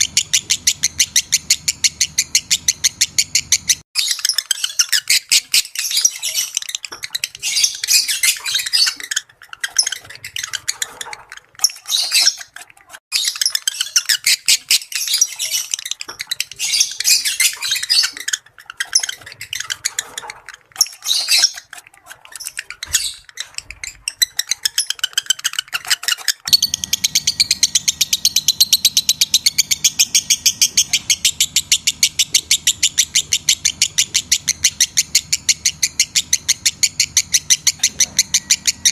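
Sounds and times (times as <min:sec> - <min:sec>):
lovebirds chattering: 0:00.0 - 0:38.9.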